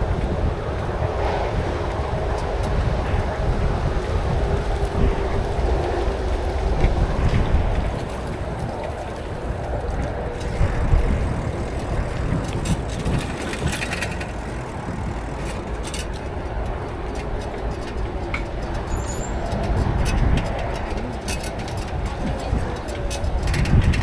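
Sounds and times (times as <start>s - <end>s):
bicycle road noise: 0.0s - 24.0s
wind rumble on microphone: 0.0s - 24.0s
light ticks and rattles: 2.4s - 24.0s.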